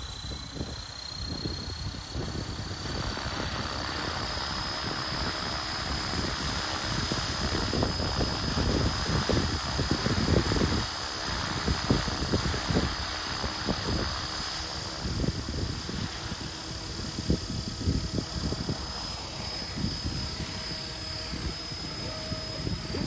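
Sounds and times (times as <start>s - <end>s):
radio-controlled helicopter whine: 0.0s - 23.0s
rotor blades rushing: 0.0s - 23.0s
wind buffeting on microphone: 0.0s - 23.0s.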